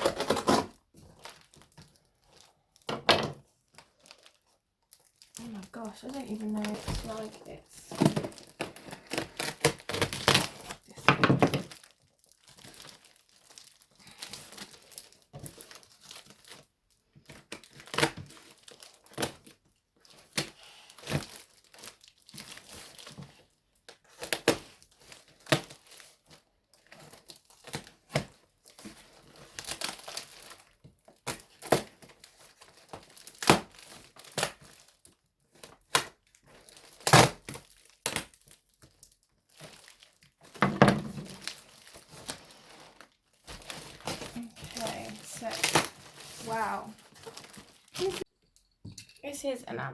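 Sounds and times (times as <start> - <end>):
packaging crinkling and tearing: 0.0 - 48.3.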